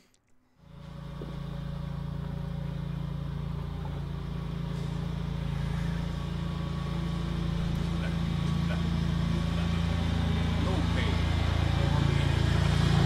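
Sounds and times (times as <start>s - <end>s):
engine running: 0.6s - 13.0s.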